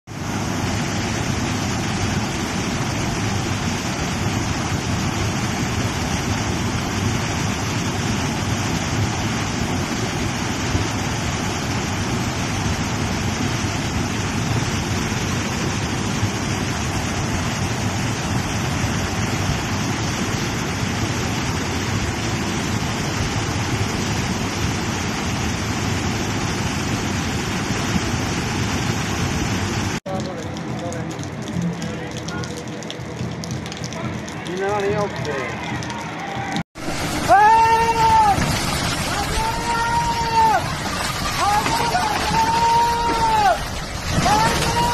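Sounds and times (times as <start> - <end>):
floodwater rushing: 0.1 - 44.9.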